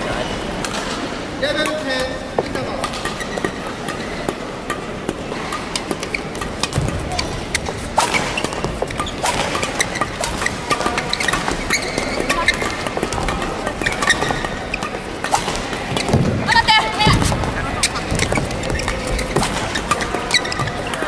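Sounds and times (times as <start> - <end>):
rackets striking shuttlecock: 0.6 - 21.0
shoes squeaking on court: 1.8 - 21.0.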